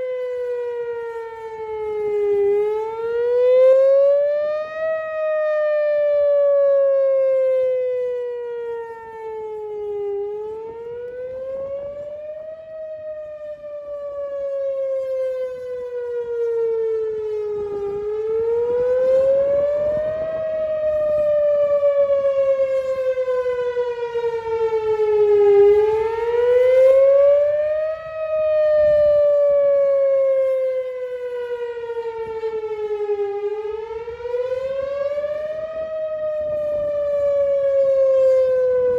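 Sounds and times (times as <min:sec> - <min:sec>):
tornado siren wailing: 0:00.0 - 0:38.9.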